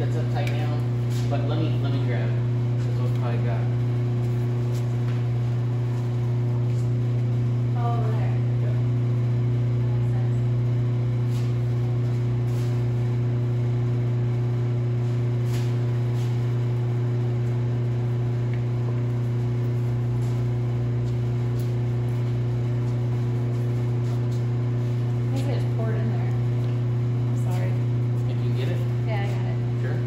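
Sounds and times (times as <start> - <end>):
low electrical motor hum: 0.0 - 30.0.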